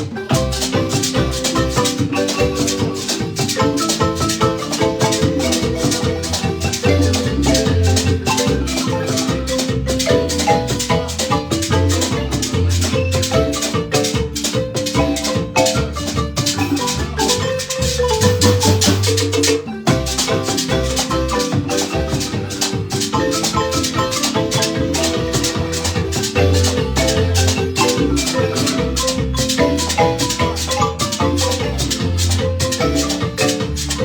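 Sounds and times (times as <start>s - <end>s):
marimba band playing: 0.0s - 34.0s
rhythmic percussion: 0.0s - 34.0s.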